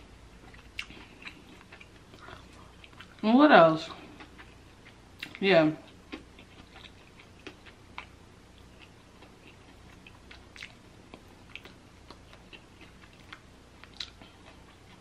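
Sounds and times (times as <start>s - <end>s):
chewing smacks: 0.4s - 3.2s, 4.1s - 15.0s.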